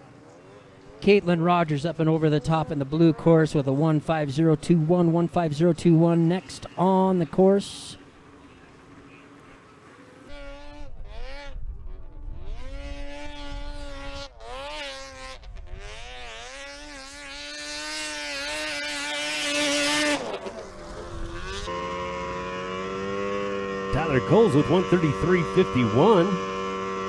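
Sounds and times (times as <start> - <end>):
snowmobile engine revving: 1.0 - 27.0.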